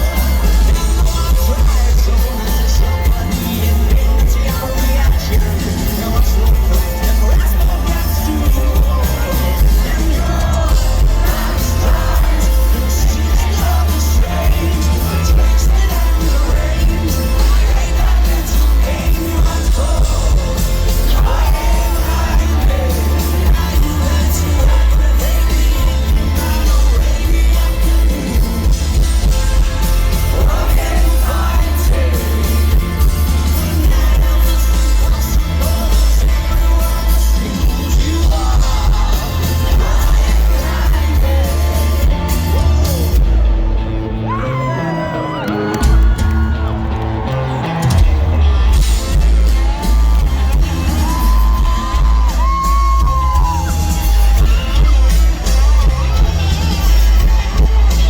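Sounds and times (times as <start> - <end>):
crowd yelling: 0.0 - 58.0
live rock band playing: 0.0 - 58.0
sung vocals: 0.0 - 58.0.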